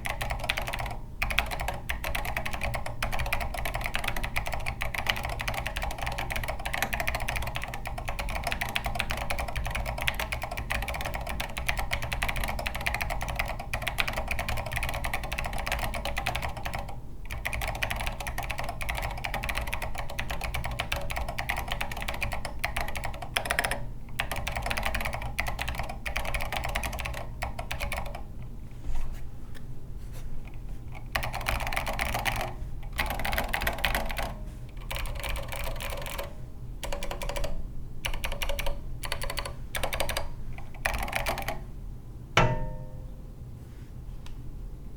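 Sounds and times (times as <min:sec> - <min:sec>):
fast typing on clicky keyboard: 0:00.0 - 0:28.2, 0:31.1 - 0:41.6.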